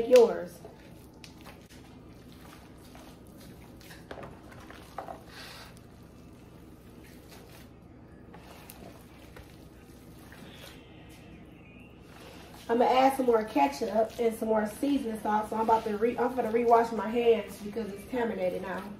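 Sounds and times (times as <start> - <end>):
low steady hum: 0.0 - 18.9
wet squishing of kneaded meat: 0.0 - 18.9.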